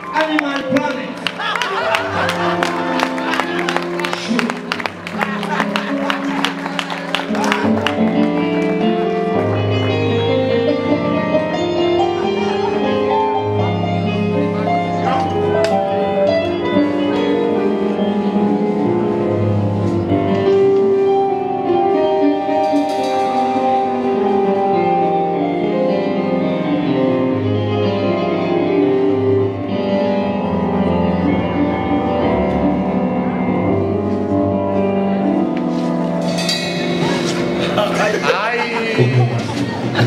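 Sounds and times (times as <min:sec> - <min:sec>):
keyboard piano: 0:00.0 - 0:40.0.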